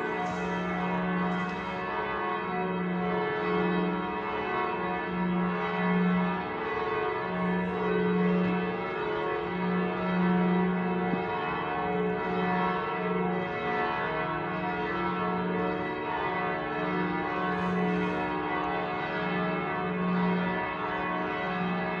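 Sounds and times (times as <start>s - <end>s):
church bells pealing: 0.0s - 22.0s.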